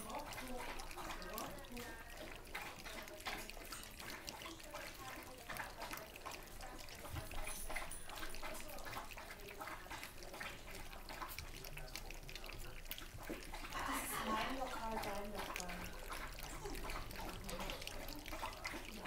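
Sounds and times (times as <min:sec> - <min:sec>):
puppies lapping and slurping food: 0:00.0 - 0:19.0.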